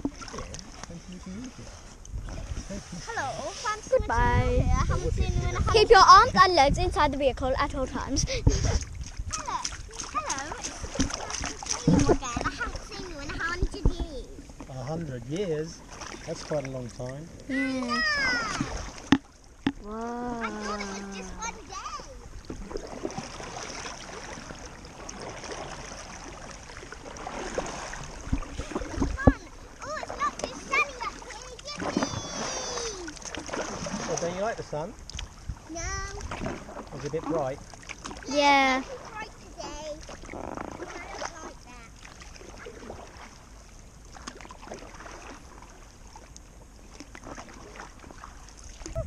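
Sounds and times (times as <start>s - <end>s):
water lapping against paddleboard: 0.0s - 49.0s.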